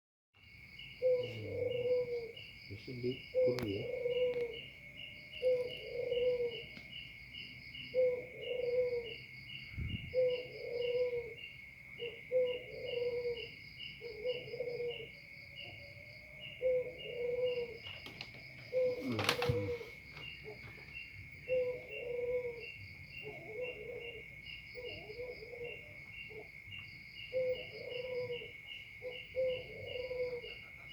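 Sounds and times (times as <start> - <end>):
insects chirping trill: 0.4 - 30.9
dove cooing: 1.0 - 6.9, 7.8 - 30.9.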